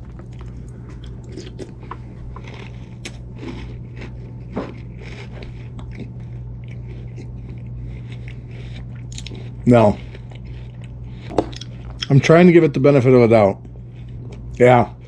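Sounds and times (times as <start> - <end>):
chewing crunchy cereal: 0.0 - 15.0
steady low hum: 0.0 - 15.0.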